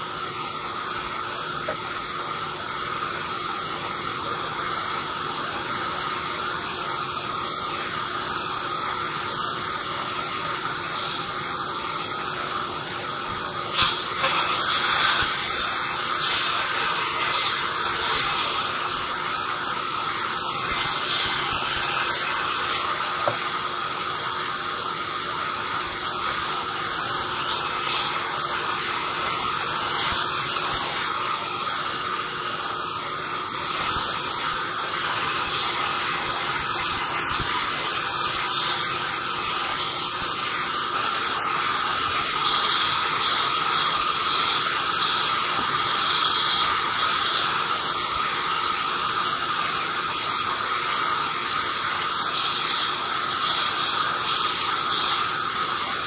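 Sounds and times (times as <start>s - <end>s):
band saw blade whine: 0.0s - 56.0s.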